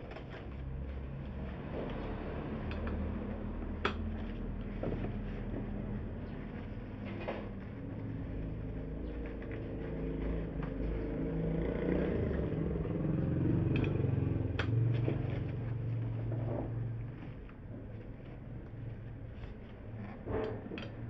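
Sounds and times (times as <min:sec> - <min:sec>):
motor vehicle engine running: 0:00.0 - 0:21.0.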